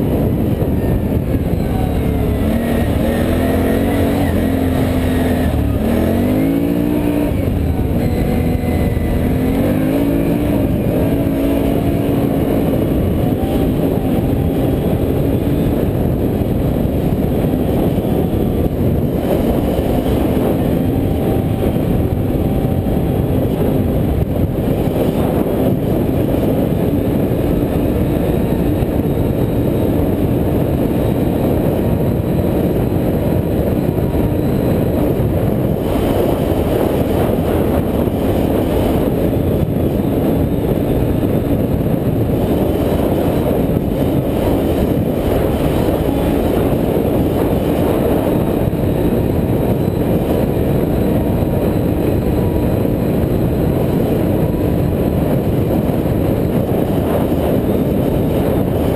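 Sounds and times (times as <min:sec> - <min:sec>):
atv engine rumbling: 0:00.0 - 0:58.9.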